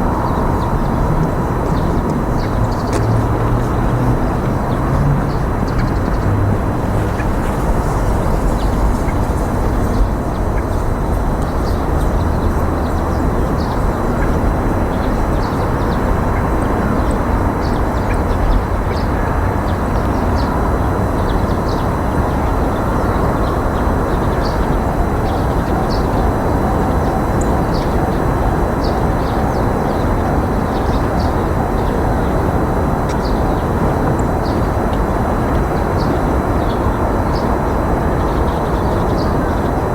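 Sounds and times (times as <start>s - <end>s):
steady rumbling: 0.0s - 39.9s.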